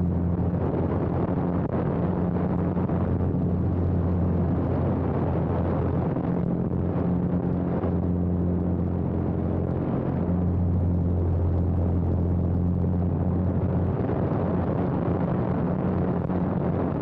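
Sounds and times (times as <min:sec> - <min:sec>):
propeller plane engine droning: 0:00.0 - 0:17.0
wind rushing over microphone: 0:00.0 - 0:17.0.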